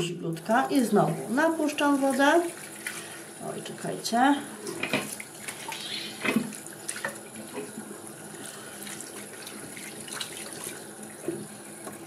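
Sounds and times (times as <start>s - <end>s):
tap water running into sink: 0.3s - 4.0s, 4.6s - 12.0s.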